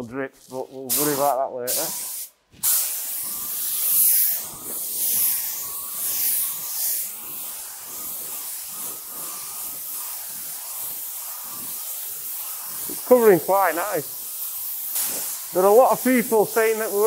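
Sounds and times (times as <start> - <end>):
spray gun hissing: 0.0 - 17.0.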